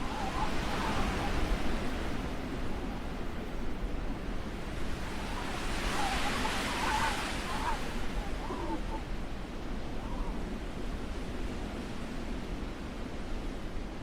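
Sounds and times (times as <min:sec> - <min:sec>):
wind on microphone: 0:00.0 - 0:13.8.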